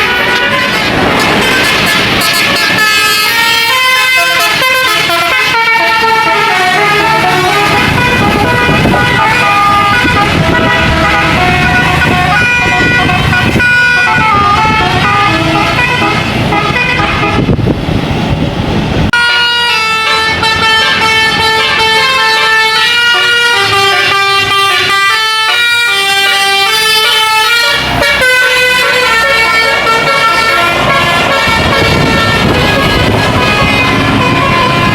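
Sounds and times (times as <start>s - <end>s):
bus musical horn melody: 0.0s - 17.7s, 19.1s - 34.9s
bus engine rumble: 0.0s - 34.9s.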